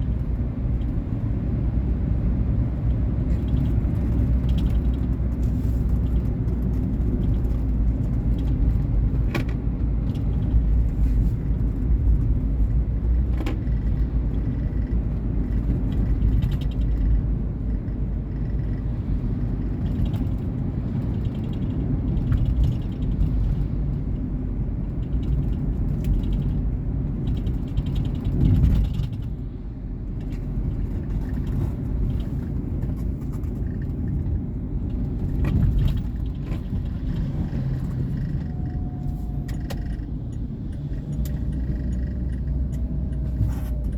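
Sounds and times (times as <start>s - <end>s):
car engine and tyre noise: 0.0s - 43.9s.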